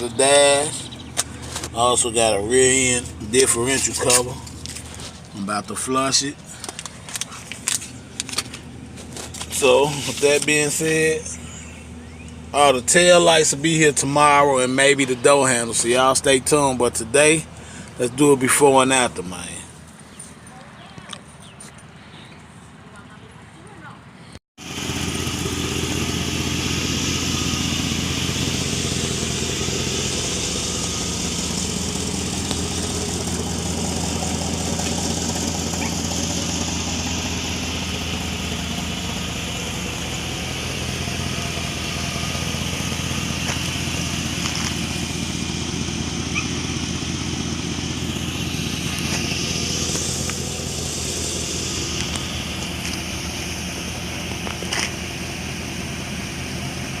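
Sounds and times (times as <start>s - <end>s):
pickup truck idling: 0.0s - 20.2s, 24.6s - 57.0s.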